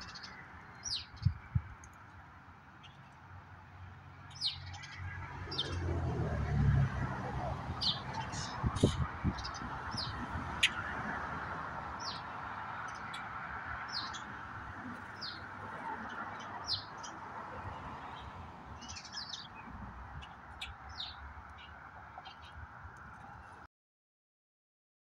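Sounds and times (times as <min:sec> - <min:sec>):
small songbirds chirping: 0:00.0 - 0:03.3, 0:04.2 - 0:06.0, 0:07.7 - 0:23.4.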